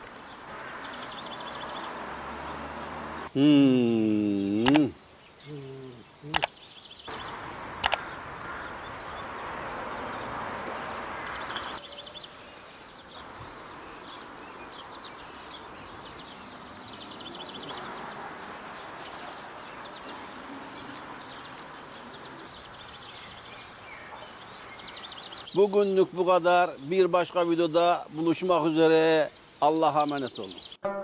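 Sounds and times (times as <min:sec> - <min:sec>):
small birds chirping in trills: 0:00.0 - 0:31.0
steady outdoor hiss: 0:00.0 - 0:31.0.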